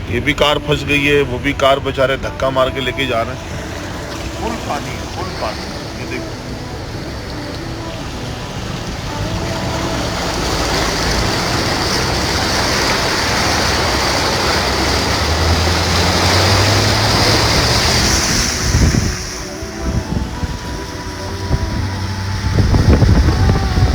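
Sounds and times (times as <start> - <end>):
low engine hum: 0.0 - 23.9
rushing floodwater: 0.0 - 23.9.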